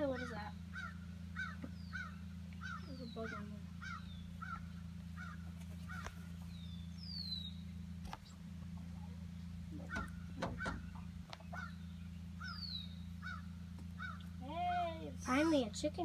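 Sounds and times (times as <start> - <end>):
poultry calling: 0.0 - 7.5, 9.8 - 15.6.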